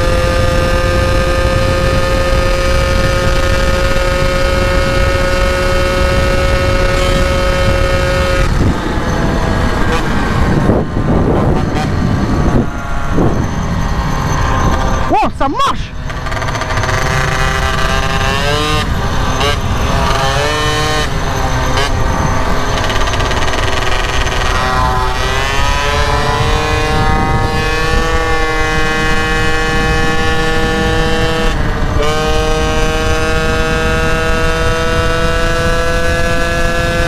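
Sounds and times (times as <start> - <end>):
wind rumble on microphone: 0.0 - 15.1, 15.9 - 37.0
two-stroke moped engine revving: 0.0 - 15.2, 15.8 - 37.0.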